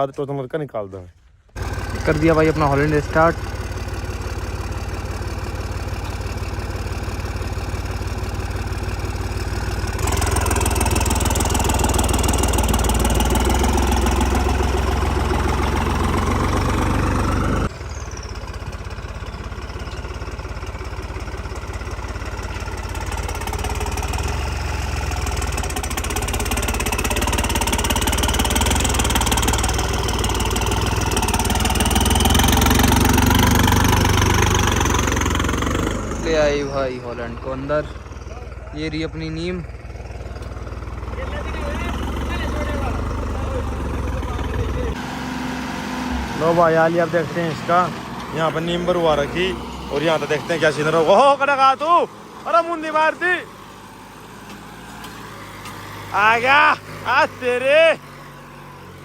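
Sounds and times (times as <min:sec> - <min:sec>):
tractor diesel engine revving: 0:01.5 - 0:59.0.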